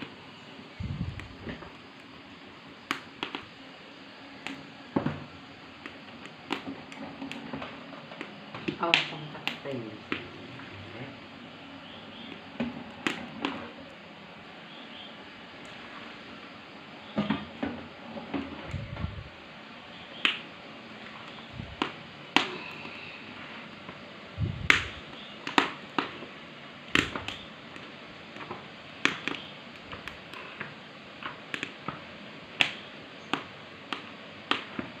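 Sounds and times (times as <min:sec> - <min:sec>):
wood fire crackling and popping: 0:00.0 - 0:16.4, 0:17.1 - 0:35.0.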